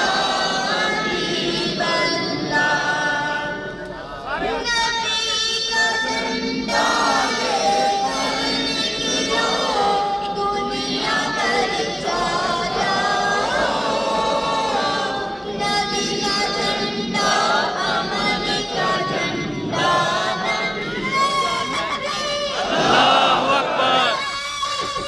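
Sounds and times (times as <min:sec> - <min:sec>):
crowd noise: 0:00.0 - 0:25.0
many voices singing a chant: 0:00.0 - 0:25.0.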